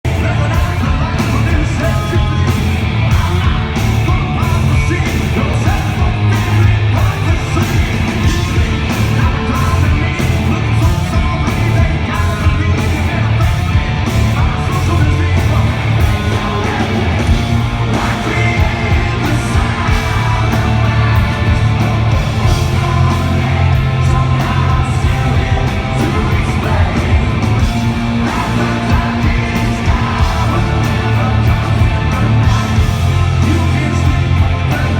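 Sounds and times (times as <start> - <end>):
hard rock band playing live: 0.0 - 34.9.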